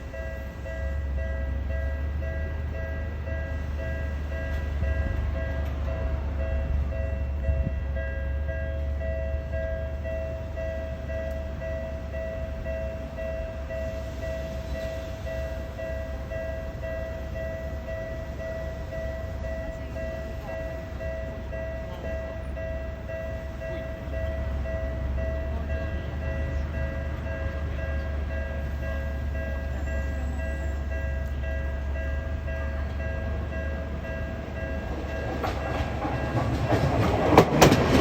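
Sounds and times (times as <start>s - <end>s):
level crossing warning bell: 0.0s - 38.0s
train rumbling: 0.0s - 38.0s.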